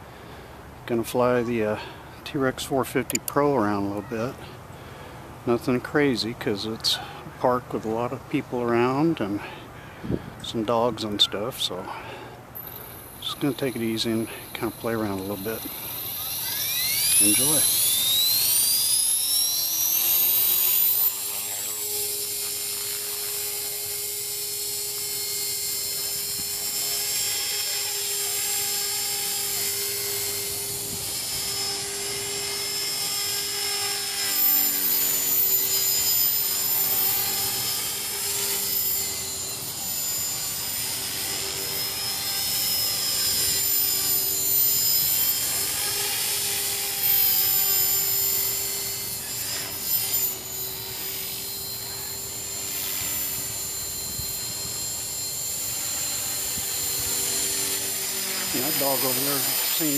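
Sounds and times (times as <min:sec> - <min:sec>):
rc helicopter motor and rotor whine: 0:00.0 - 0:59.9.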